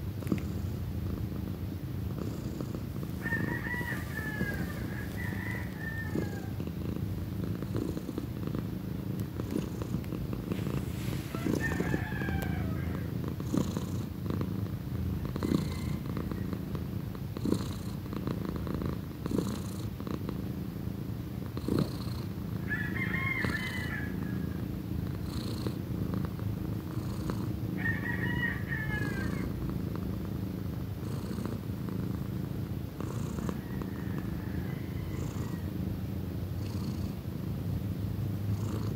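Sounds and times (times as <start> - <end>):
cat purring loudly: 0.0 - 20.7, 21.3 - 27.8, 28.5 - 38.9.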